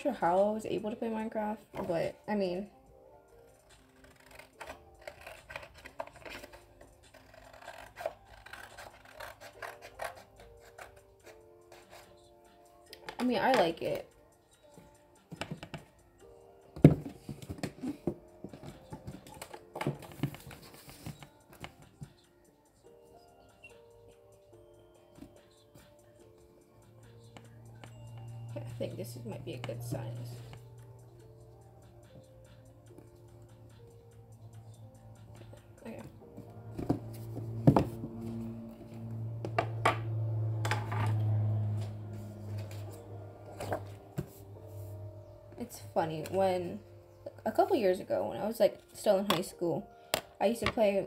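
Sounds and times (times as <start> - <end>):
faint background music: 0.0 - 51.0.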